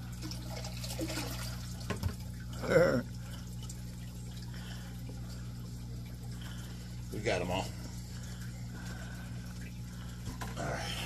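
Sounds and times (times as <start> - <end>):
steady low hum: 0.0 - 11.0
water pouring and splashing: 0.0 - 11.0.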